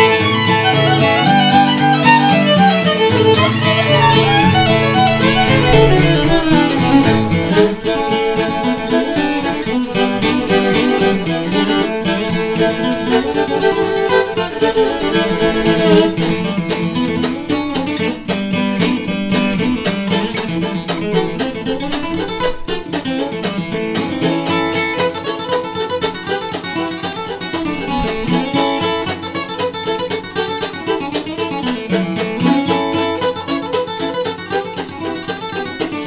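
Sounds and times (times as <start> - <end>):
acoustic guitar: 0.0 - 36.0
banjo picking: 0.0 - 36.0
bluegrass music: 0.0 - 36.0.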